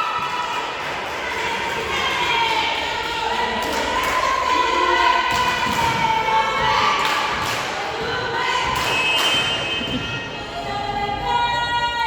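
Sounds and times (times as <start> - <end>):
crowd shouting and chanting: 0.0 - 12.0.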